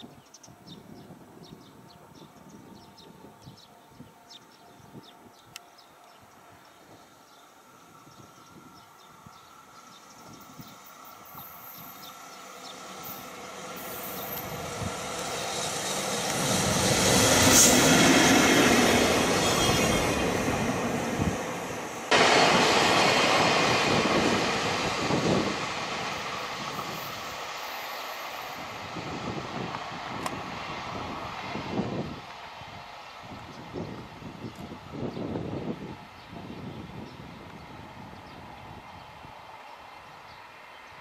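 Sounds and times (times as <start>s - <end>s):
freight train passing: 0.0s - 41.0s.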